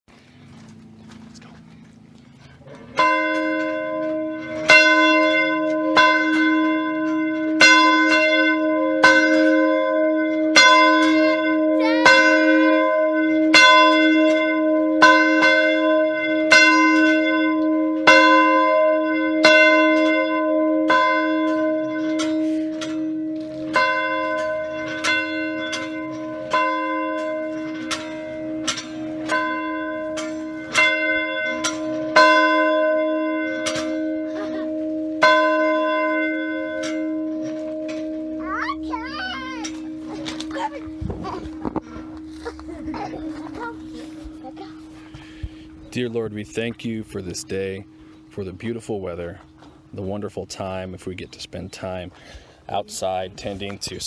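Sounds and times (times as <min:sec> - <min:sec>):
church bell tolling: 0:00.1 - 0:50.9.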